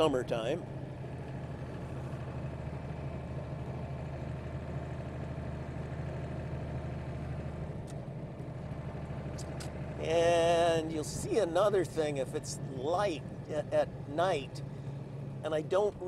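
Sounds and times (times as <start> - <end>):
vehicle engine and tyre drone: 0.0 - 16.0.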